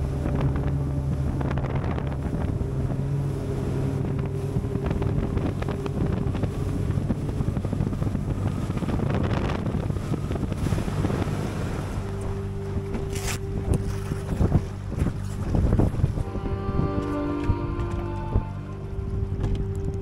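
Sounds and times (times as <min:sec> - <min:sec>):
hull knocking on waves: 0:00.0 - 0:20.0
outboard motor running: 0:00.0 - 0:20.0
wind buffeting microphone: 0:00.0 - 0:20.0.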